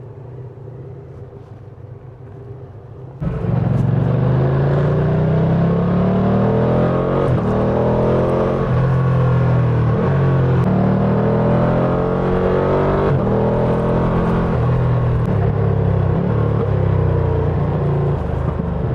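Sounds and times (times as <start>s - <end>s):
motorcycle engine revving: 3.2s - 18.9s.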